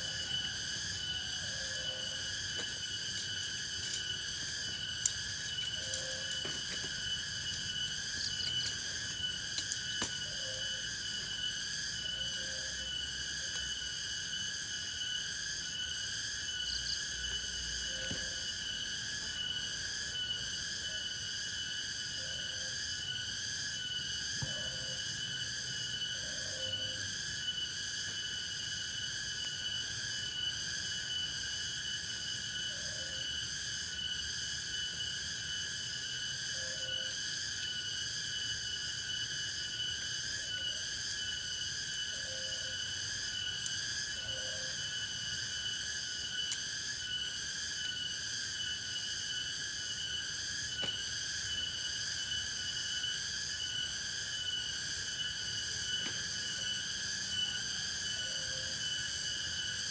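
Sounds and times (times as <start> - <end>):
frogs calling: 0.0 - 34.4, 36.0 - 47.9, 48.6 - 59.9
insects trilling: 0.0 - 59.9.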